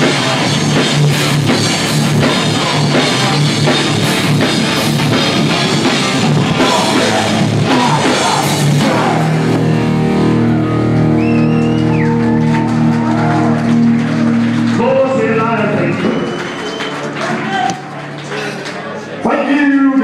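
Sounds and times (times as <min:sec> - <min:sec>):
drum kit: 0:00.0 - 0:18.0
distorted electric guitar: 0:00.0 - 0:18.5.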